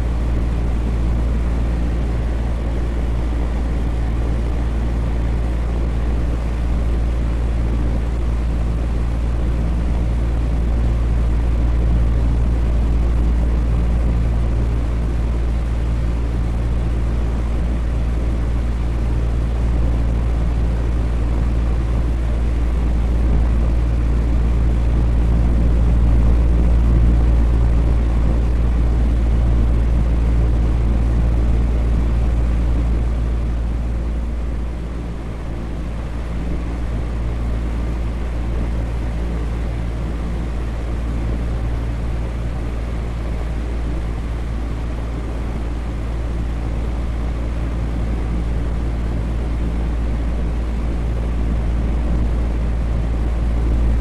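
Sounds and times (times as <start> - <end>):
deep fan hum: 0.0 - 54.0
electric fan whooshing: 0.0 - 54.0.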